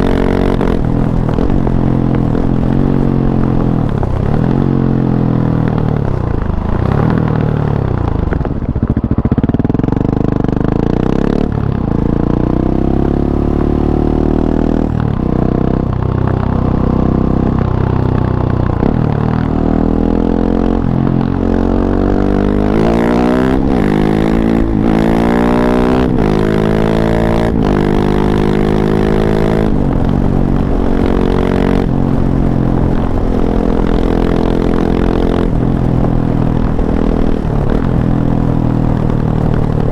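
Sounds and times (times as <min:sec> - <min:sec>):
motorcycle engine revving and upshifting: 0:00.0 - 0:39.9.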